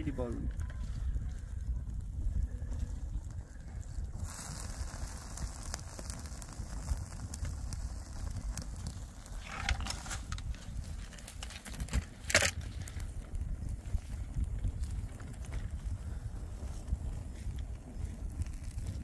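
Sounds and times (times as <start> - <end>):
campfire crackling and popping: 0.0 - 19.0
liquid poured on fire: 2.8 - 19.0.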